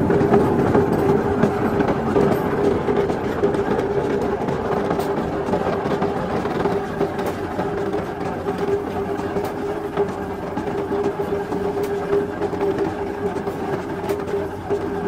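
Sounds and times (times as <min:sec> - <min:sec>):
factory machinery droning hum: 0:00.0 - 0:15.0.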